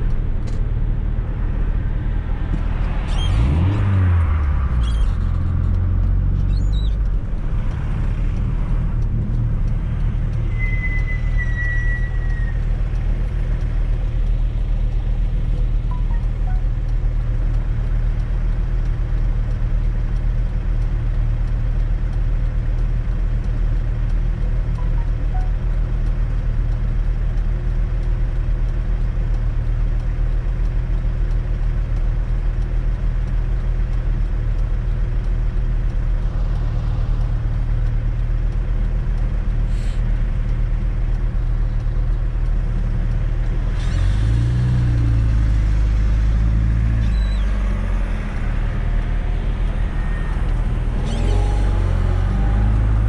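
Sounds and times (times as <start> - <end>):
car engine driving: 0.0 - 53.0
road noise: 0.0 - 53.0.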